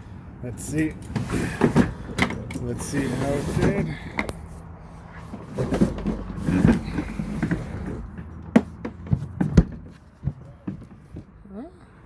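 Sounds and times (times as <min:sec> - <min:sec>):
cooler clunking and rattling: 0:00.7 - 0:11.4.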